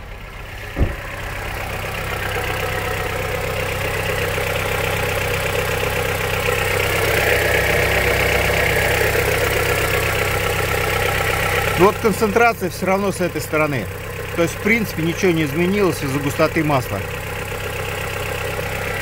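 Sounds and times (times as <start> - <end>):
car engine idling: 0.0 - 19.0
engine knock: 0.0 - 19.0.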